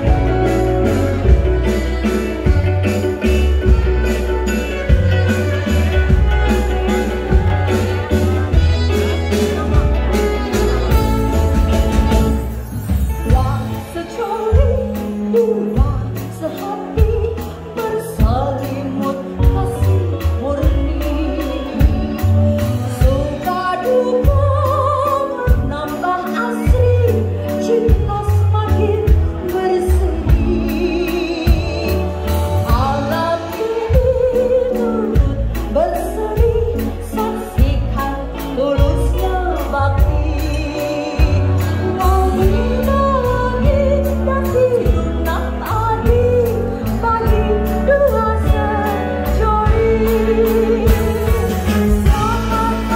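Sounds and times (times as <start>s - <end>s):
amplified backing music: 0.0s - 52.9s
woman singing with vibrato: 0.0s - 52.9s.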